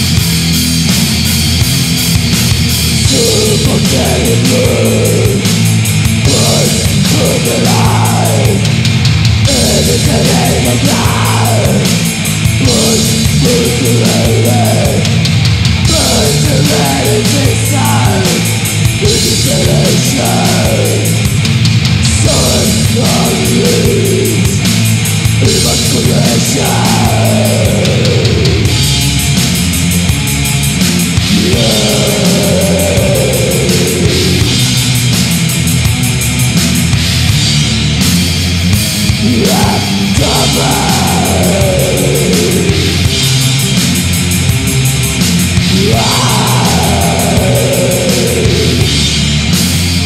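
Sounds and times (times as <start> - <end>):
death metal band playing: 0.0 - 50.0.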